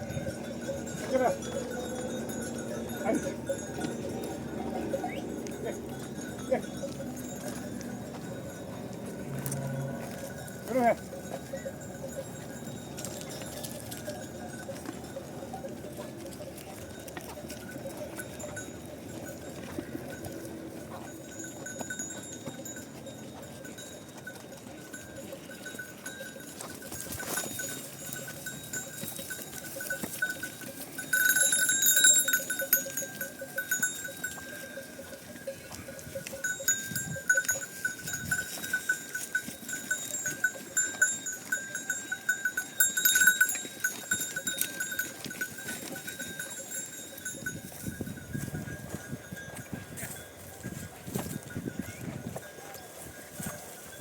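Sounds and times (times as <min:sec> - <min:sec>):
livestock bells jangling: 0:00.0 - 0:54.0.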